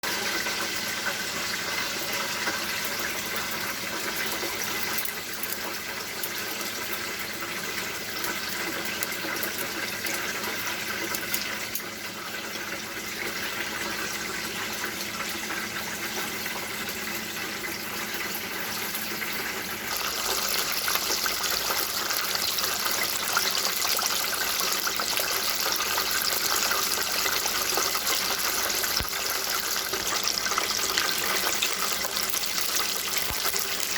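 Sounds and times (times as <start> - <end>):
water running from a tap: 0.0 - 33.9.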